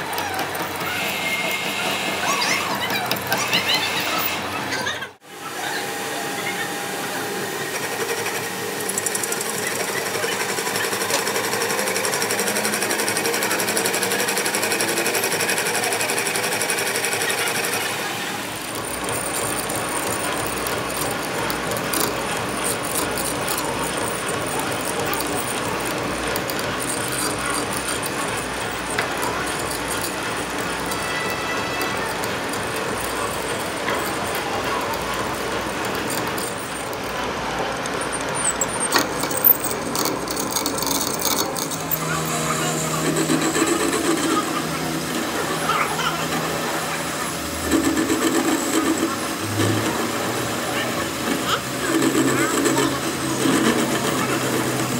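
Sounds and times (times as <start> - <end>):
metal lathe drilling steel: 0.0 - 54.9.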